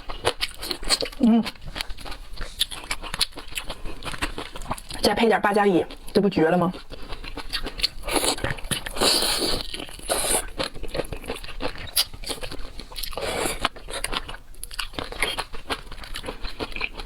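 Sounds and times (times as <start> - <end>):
person chewing crunchy food: 0.0 - 5.1, 5.9 - 17.0.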